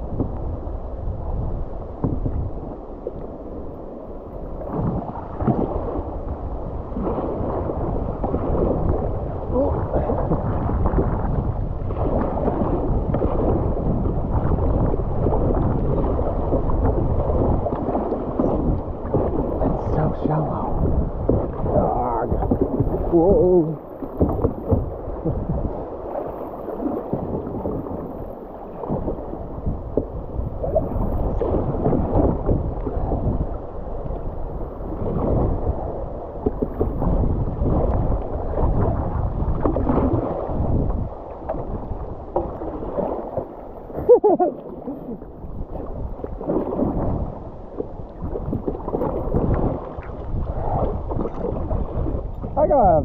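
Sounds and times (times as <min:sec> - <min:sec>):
muffled whitewater rushing: 0:00.0 - 0:53.0.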